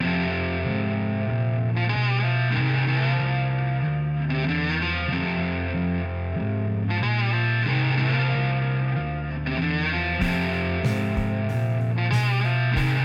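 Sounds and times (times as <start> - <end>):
bass line: 0.0 - 13.0
distorted electric guitar: 0.0 - 13.0.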